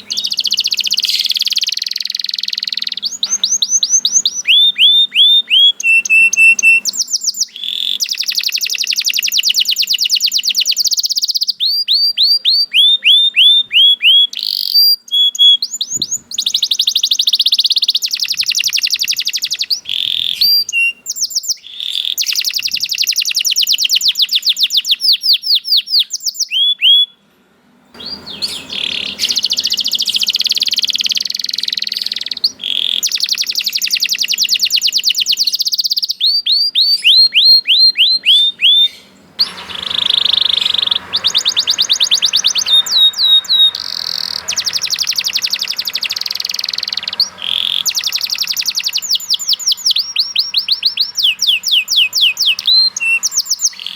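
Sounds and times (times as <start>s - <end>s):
canaries singing trills: 0.0s - 27.3s, 27.9s - 53.9s
background hiss: 0.0s - 53.9s.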